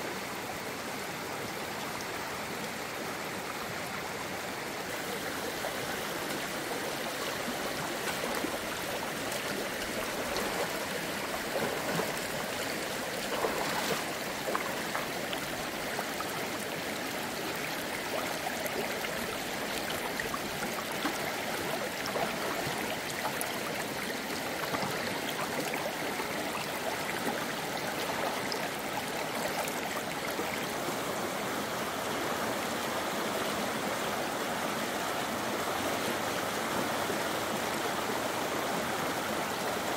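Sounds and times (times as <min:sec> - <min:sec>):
running water rushing: 0:00.2 - 0:39.9.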